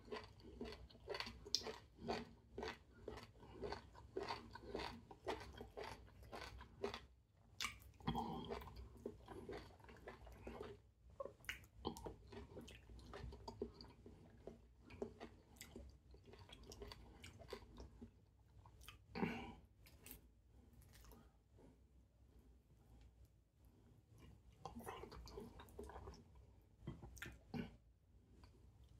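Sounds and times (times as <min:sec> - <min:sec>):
person chewing wet mouth sounds: 0:00.0 - 0:20.2, 0:24.1 - 0:28.9.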